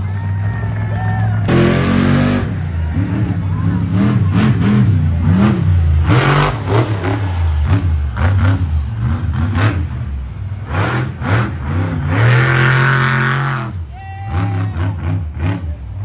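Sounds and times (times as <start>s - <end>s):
truck engine revving: 0.4s - 16.0s.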